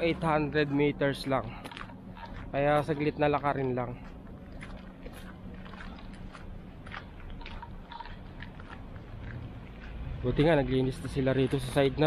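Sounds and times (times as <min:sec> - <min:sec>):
footsteps crunching on snow: 0:00.0 - 0:12.0
low steady rumble: 0:00.0 - 0:12.0.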